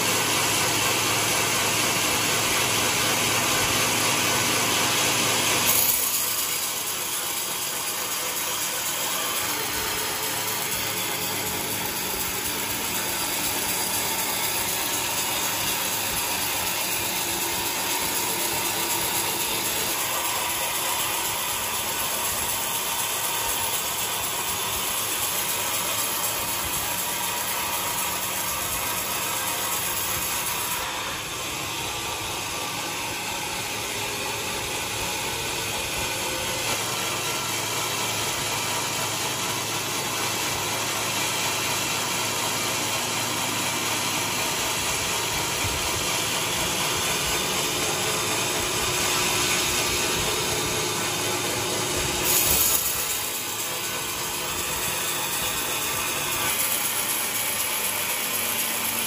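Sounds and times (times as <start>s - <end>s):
sawmill sawing log: 0.0s - 59.0s.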